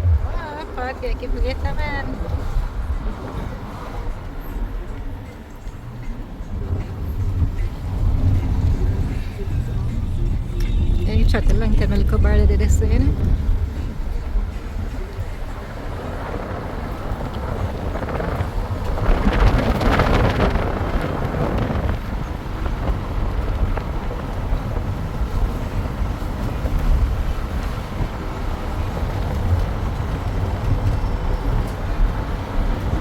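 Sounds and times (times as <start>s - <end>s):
road vehicle rumble: 0.0s - 33.0s
wind buffeting microphone: 0.0s - 33.0s.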